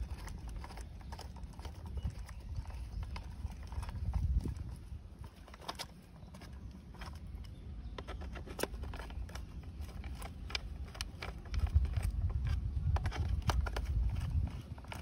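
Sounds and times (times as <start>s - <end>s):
hard plastic being handled: 0.0s - 15.0s.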